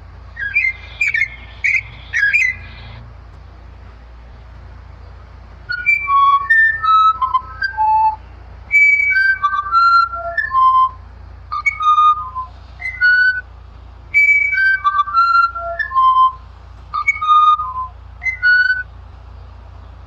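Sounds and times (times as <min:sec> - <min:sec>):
bird whistling song: 0:00.3 - 0:03.0, 0:05.0 - 0:13.5, 0:14.1 - 0:20.0.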